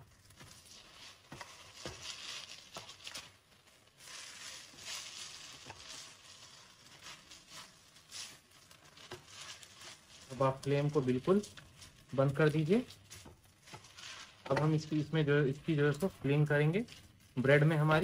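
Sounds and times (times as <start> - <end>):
spatula swishing and clicking in pan: 0.0 - 17.9
soft sizzle: 0.0 - 18.0.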